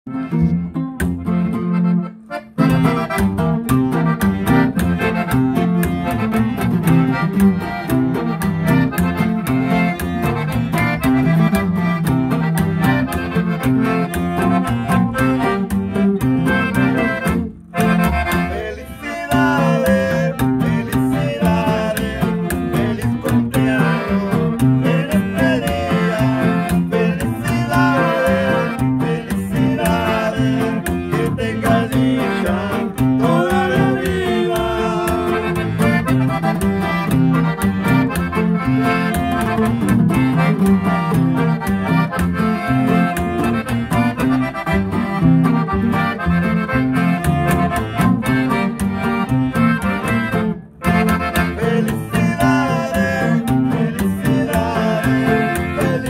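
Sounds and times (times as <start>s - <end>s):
accordion: 0.0s - 56.0s
acoustic guitar: 0.1s - 56.0s.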